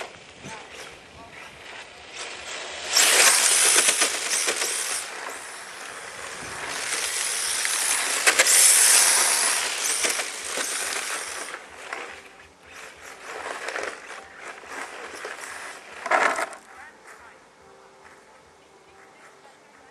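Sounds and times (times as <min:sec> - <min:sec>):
toy car tyres hissing on asphalt: 0:00.0 - 0:16.6.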